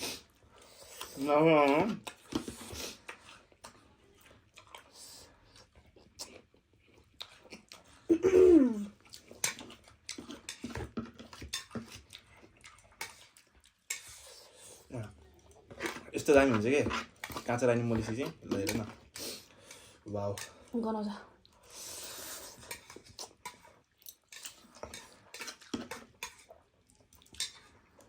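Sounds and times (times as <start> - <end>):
chewing: 0.2 - 8.1, 8.9 - 20.7, 21.3 - 28.0.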